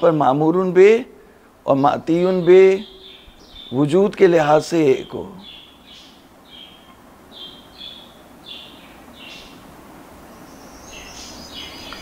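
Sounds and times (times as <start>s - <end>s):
faint background hum: 0.0s - 12.0s
small bird chirping: 2.2s - 12.0s.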